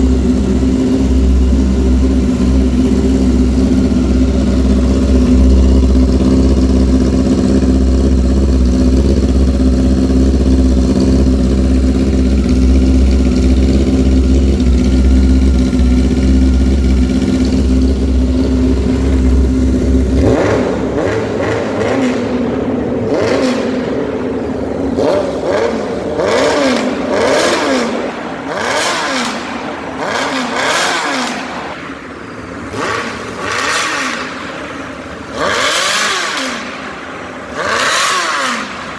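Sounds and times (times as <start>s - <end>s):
motorcycle engine idling: 0.0s - 38.9s
motorcycle engine revving: 0.0s - 38.9s.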